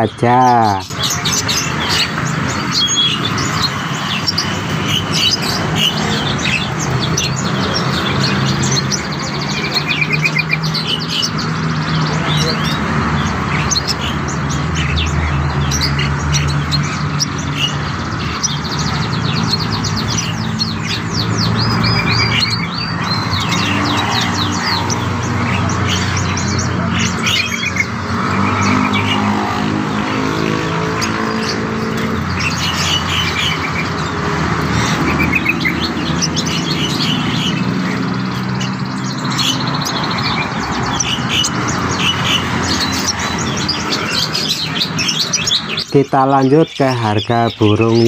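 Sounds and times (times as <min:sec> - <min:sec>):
small birds chirping and twittering: 0:00.0 - 0:48.0.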